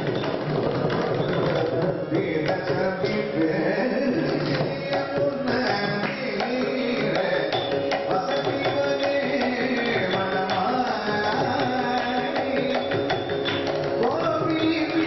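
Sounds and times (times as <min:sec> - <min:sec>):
hand drum beating: 0:00.0 - 0:15.0
men singing classical song: 0:02.0 - 0:13.4, 0:14.0 - 0:15.0.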